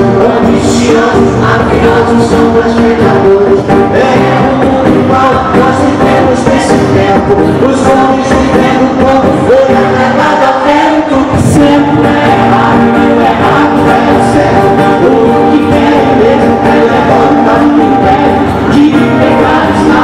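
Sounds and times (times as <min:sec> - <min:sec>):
man and woman singing together: 0:00.0 - 0:20.0
strummed acoustic guitars: 0:00.0 - 0:20.0.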